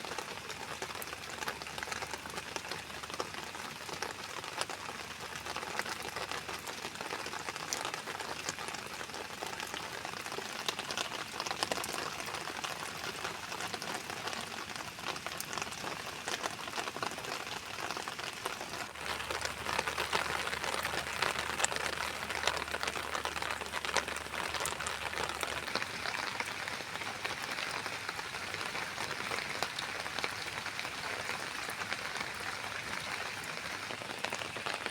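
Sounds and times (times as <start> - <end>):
raindrops striking surfaces: 0.0 - 34.9
steady rain falling: 0.0 - 34.9.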